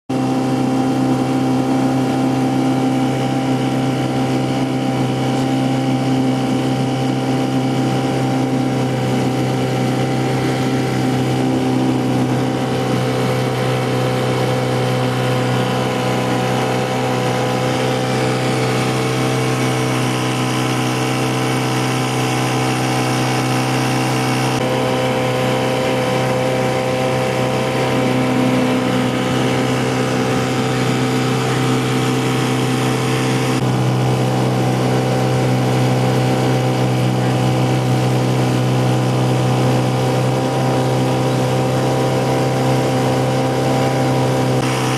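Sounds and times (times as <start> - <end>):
small outboard motor running: 0.1 - 44.9.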